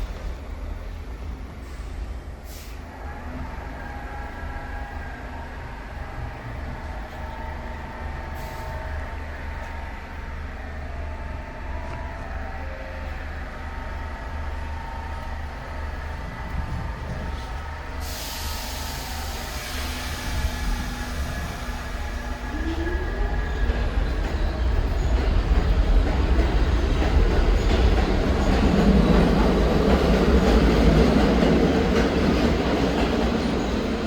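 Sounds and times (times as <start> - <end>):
subway train rumbling: 0.0 - 34.0.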